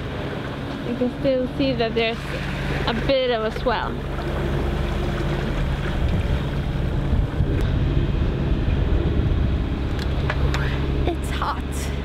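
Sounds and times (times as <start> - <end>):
wind buffeting microphone: 0.0 - 11.8
boat engine humming: 0.0 - 12.0
water rushing along hull: 0.0 - 12.0.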